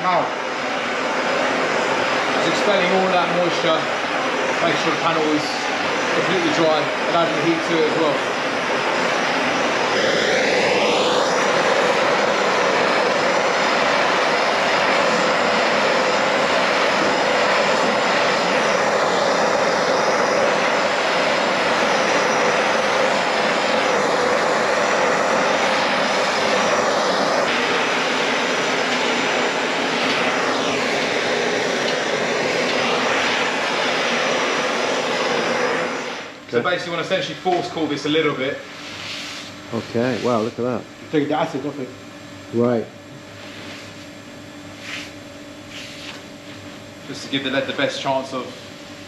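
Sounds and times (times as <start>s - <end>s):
blowtorch hissing: 0.0s - 49.0s.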